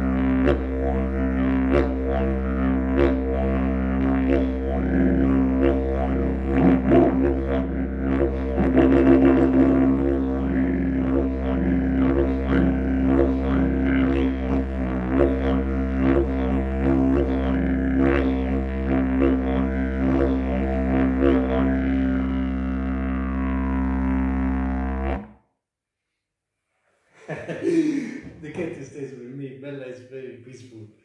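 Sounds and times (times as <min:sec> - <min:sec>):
didgeridoo drone: 0:00.0 - 0:25.3.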